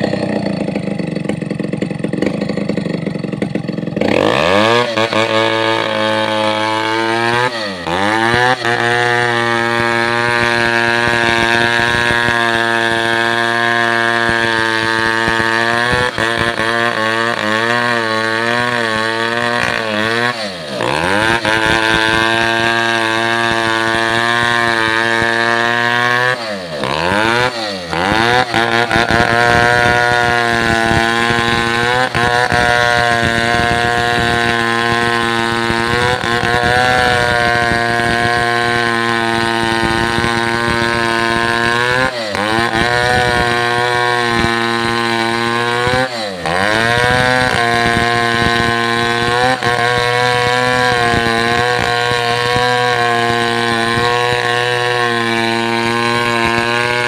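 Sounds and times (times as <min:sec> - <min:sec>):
chainsaw engine running: 0:00.0 - 0:57.0.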